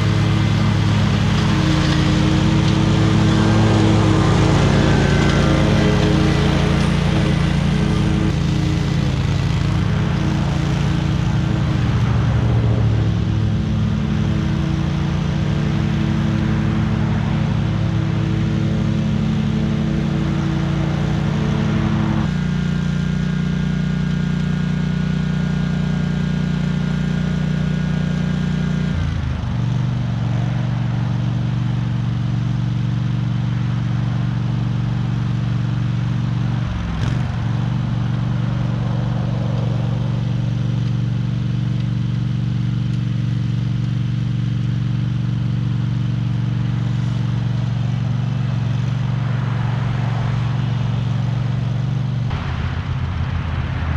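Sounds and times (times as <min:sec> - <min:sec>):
small gasoline engine running: 0:00.0 - 0:53.9.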